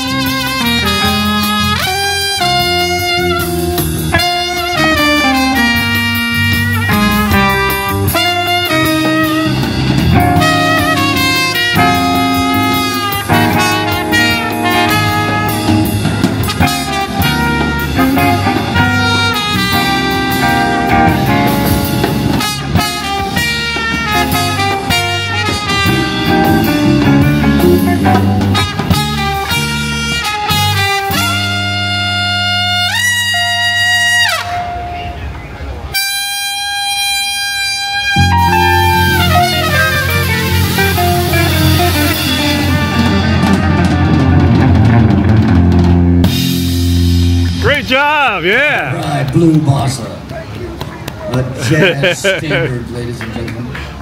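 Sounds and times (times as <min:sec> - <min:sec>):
drum kit: 0:00.0 - 0:33.4, 0:38.2 - 0:49.2
saxophone: 0:00.0 - 0:35.2, 0:35.9 - 0:48.8
trumpet: 0:00.0 - 0:35.2, 0:35.9 - 0:48.9
bass: 0:00.0 - 0:54.0.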